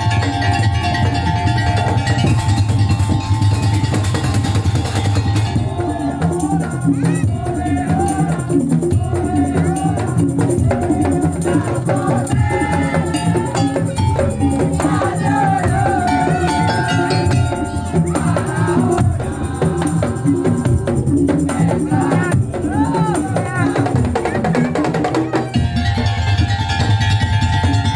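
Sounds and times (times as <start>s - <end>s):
wavering melody line: 0.0s - 23.8s
drums and percussion ensemble: 0.0s - 27.9s
shakers: 0.0s - 27.9s.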